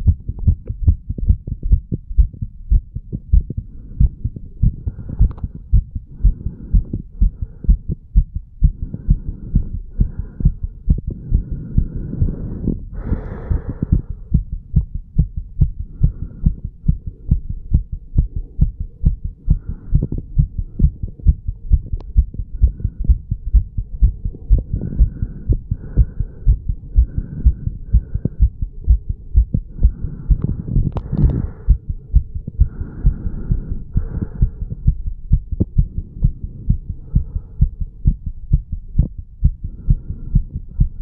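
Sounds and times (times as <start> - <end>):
heartbeat thumps: 0.0 - 41.0.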